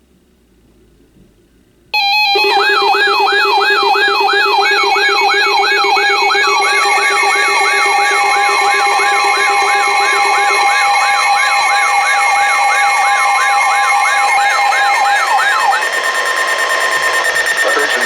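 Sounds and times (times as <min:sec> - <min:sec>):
siren-like falling sweep: 0:02.0 - 0:18.0
steady electronic alarm tones: 0:02.0 - 0:18.0.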